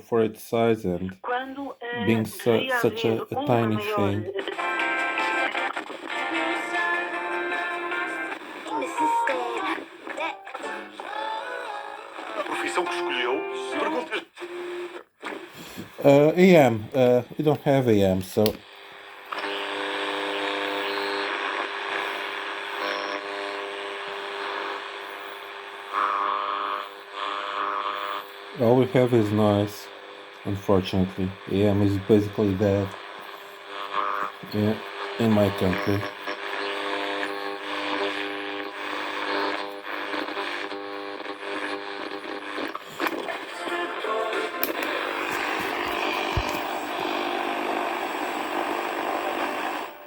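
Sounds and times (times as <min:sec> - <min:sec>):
radio static with hum: 0:00.0 - 0:50.0.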